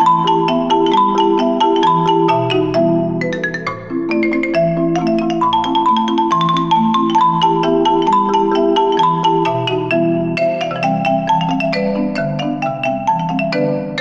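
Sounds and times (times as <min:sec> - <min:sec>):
mallet percussion music: 0:00.0 - 0:14.0.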